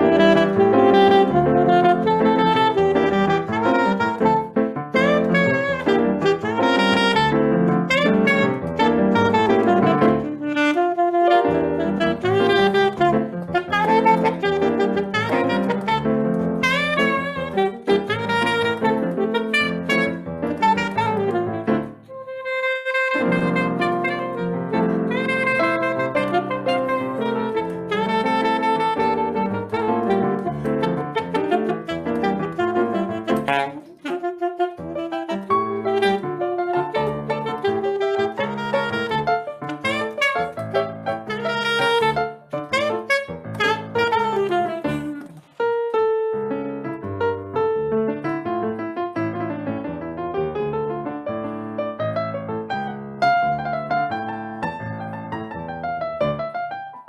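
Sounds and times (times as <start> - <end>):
jazz band with piano: 0.0 - 57.0
saxophone melody: 0.0 - 57.0.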